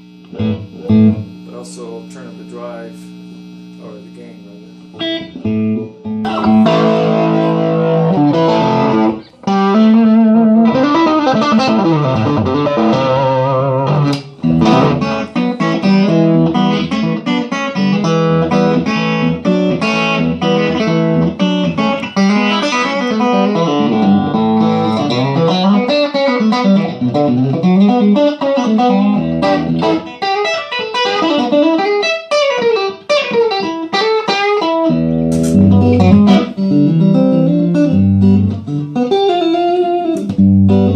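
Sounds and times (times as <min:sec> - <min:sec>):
overdriven electric guitar lead: 0:00.0 - 0:40.9.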